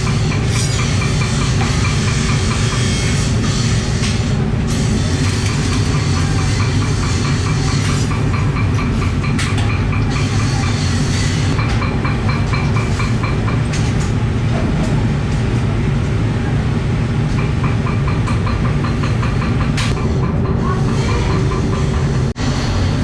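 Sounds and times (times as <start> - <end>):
workshop machinery running: 0.0 - 23.0.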